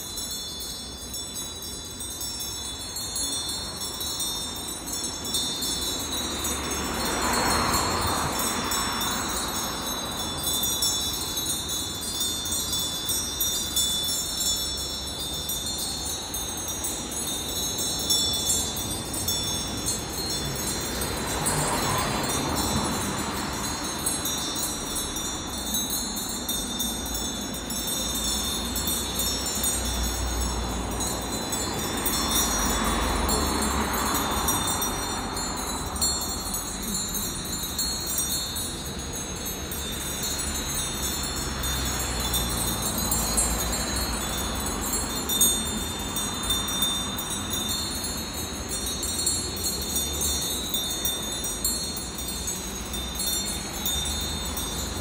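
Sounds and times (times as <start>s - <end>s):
sheep bells clinking: 0.0s - 55.0s.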